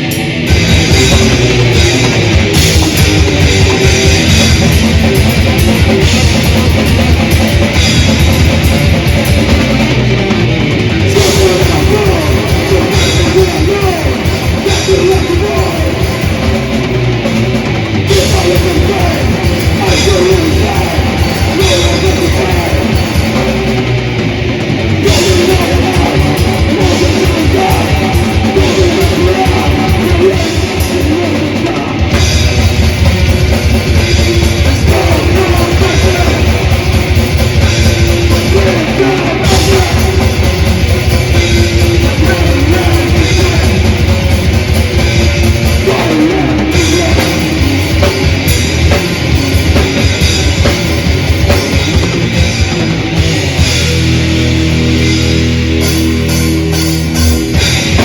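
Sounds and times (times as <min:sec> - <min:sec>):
distorted electric guitars: 0:00.0 - 0:58.0.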